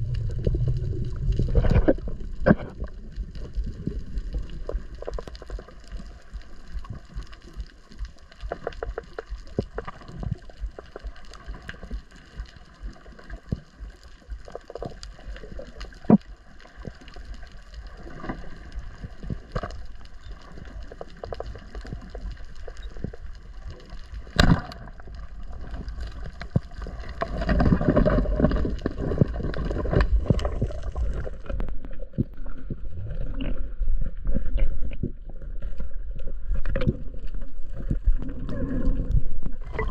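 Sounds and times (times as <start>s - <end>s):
gurgling rush of water: 0.0s - 32.2s
underwater clicks: 0.0s - 33.7s, 34.3s - 39.9s
underwater rumble: 0.0s - 39.9s.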